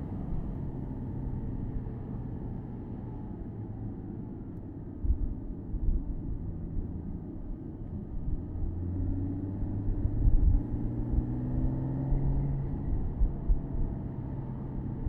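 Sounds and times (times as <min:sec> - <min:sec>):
road and wind rumble: 0:00.0 - 0:15.0.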